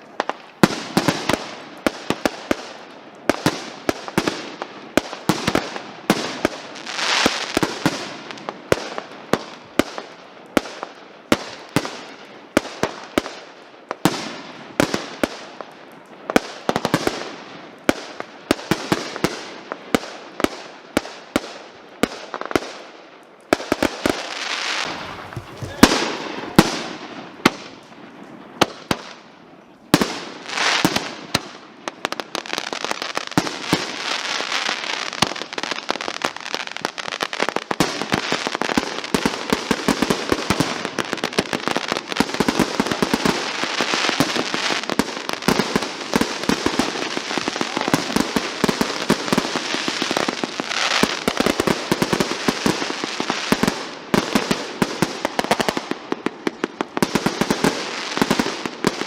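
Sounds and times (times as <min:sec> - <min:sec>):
fireworks bangs: 0:00.0 - 0:59.0
fireworks crackling pops: 0:00.0 - 0:59.0.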